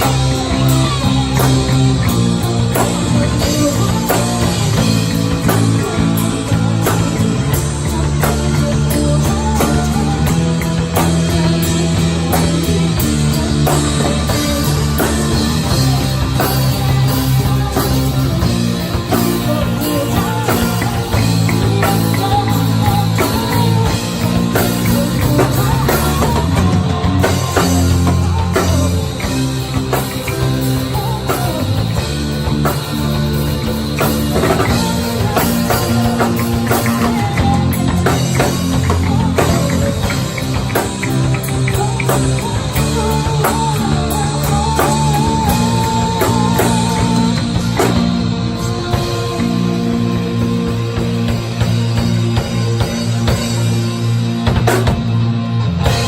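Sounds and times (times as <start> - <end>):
bass guitar notes: 0.0 - 56.0
drum kit: 0.0 - 56.0
electric guitar: 0.0 - 56.0.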